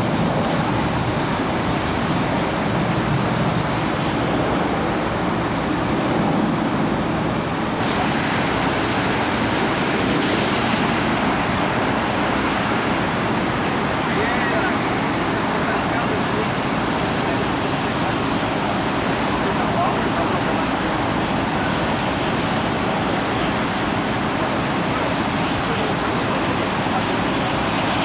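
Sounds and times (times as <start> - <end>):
heavy rain: 0.0 - 28.0
jet engines running: 0.0 - 28.0.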